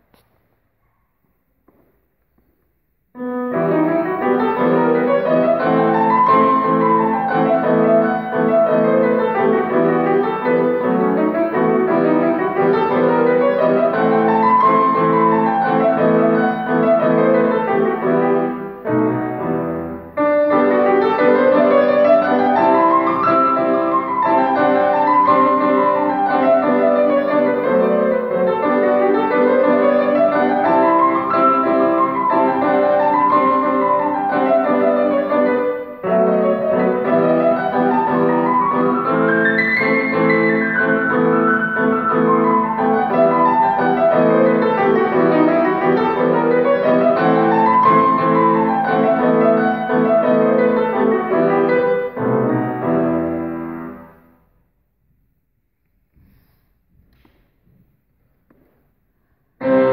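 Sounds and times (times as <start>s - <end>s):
grand piano classical piece: 0.0s - 59.9s.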